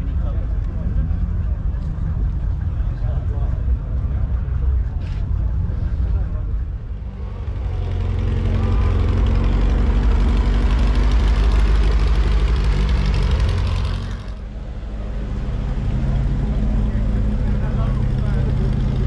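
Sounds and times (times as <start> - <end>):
another car engine: 0.0 - 19.0
car engine through open exhaust: 0.0 - 19.0.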